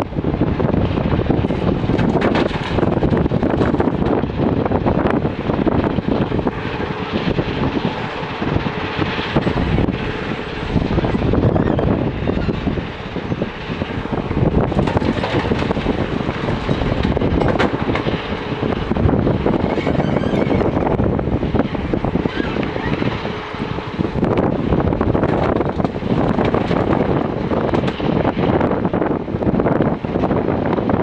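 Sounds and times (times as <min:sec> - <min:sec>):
diesel engine running under load: 0:00.0 - 0:31.0.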